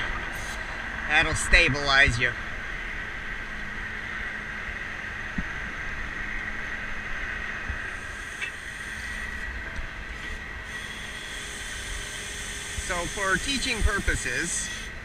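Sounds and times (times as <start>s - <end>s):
hydraulic pump whine: 0.0s - 15.0s.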